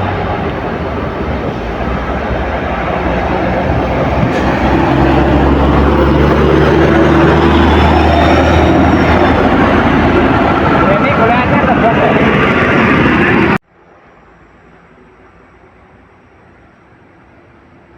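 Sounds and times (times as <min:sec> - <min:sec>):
diesel engine running: 0:00.0 - 0:16.5
traffic noise: 0:00.0 - 0:17.9.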